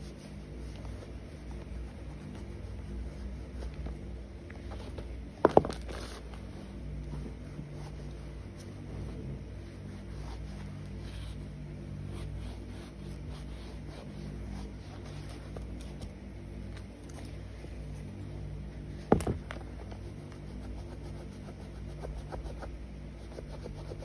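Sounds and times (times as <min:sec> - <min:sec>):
steady low hum: 0:00.0 - 0:24.0
wipe scrubbing a sneaker: 0:00.0 - 0:24.0.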